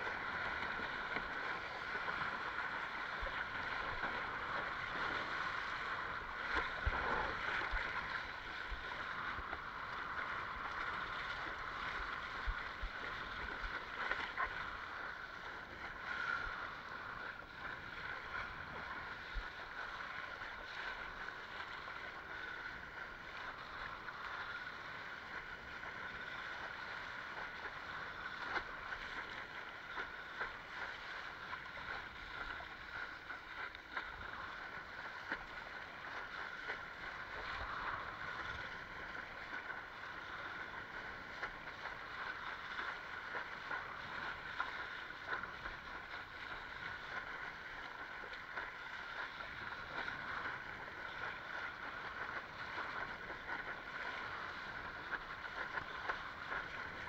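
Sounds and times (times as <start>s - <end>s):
water rushing along hull: 0.0s - 57.0s.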